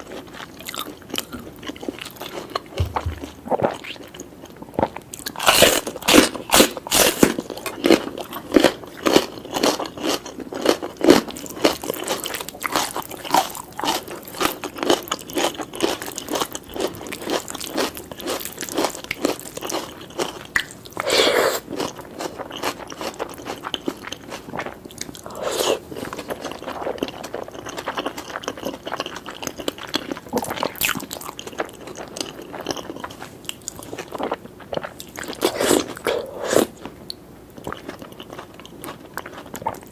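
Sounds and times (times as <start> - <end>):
crunching chewing: 0.0 - 39.9.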